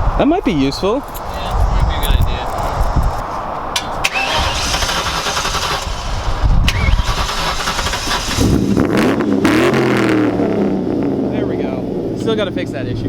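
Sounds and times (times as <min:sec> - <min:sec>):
car engine starting and idling: 0:01.1 - 0:13.0.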